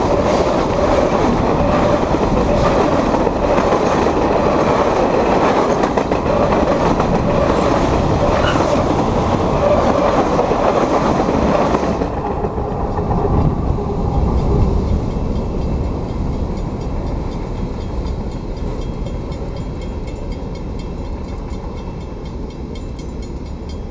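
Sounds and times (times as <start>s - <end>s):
low train rumble: 0.0s - 23.9s
train wheels clattering: 0.0s - 23.9s.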